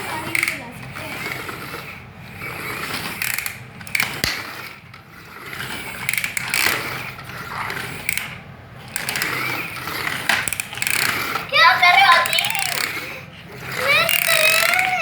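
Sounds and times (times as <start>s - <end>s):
toy motor whirring and ratcheting: 0.0s - 15.0s.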